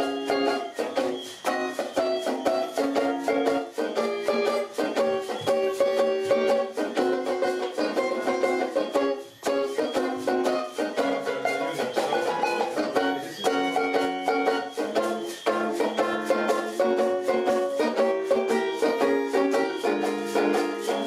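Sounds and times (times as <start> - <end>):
banjo picking: 0.0 - 21.0.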